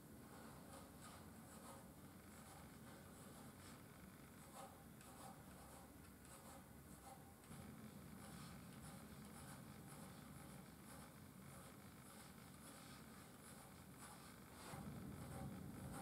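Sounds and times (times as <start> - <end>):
pencil scratching on wood: 0.2 - 16.0.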